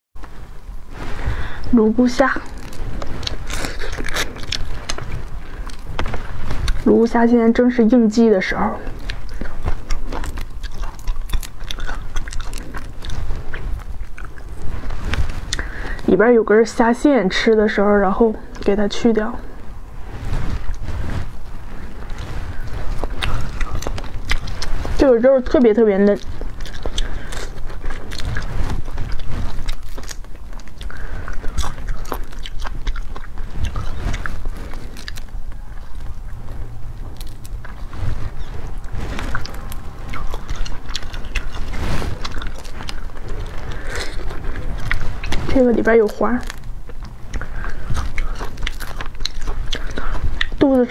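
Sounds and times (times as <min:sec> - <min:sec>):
chewing: 0:00.2 - 0:50.9
low hum: 0:00.2 - 0:50.9
shrimp shell crackling: 0:01.3 - 0:17.6, 0:20.6 - 0:50.9.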